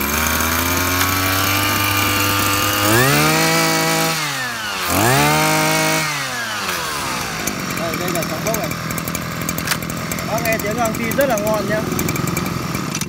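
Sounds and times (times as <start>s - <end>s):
brush cutter engine revving: 0.0s - 13.0s.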